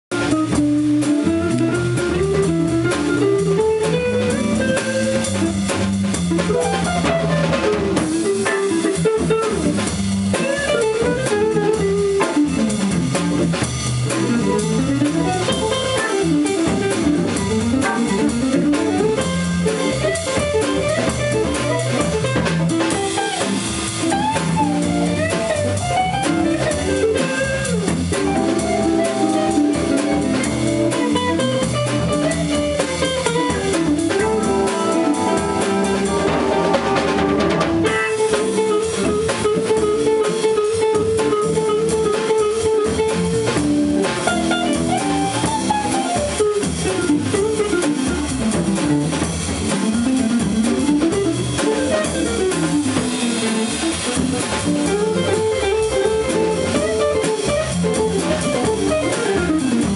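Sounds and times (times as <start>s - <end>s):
drum kit: 0.1s - 59.9s
electric guitar chords: 0.1s - 59.9s
electric guitar solo: 0.2s - 59.9s.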